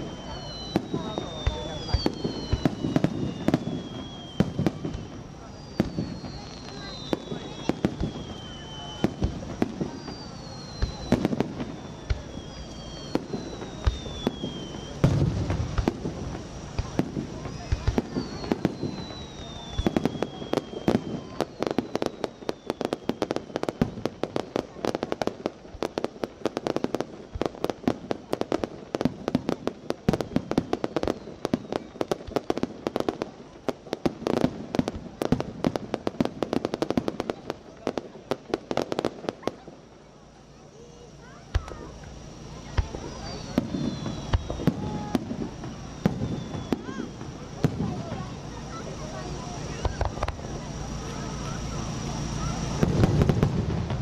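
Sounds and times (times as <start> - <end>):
fireworks bursting with sharp bangs: 0.0 - 54.0.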